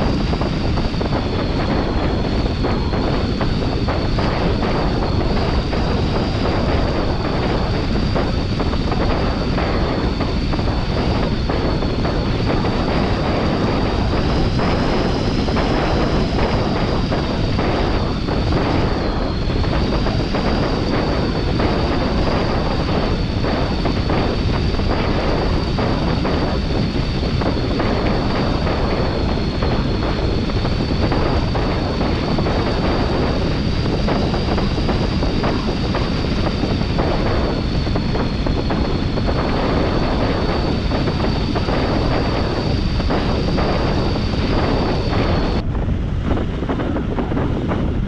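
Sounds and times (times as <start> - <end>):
faint high whine: 0.0 - 48.0
wind roaring over microphone: 0.0 - 48.0.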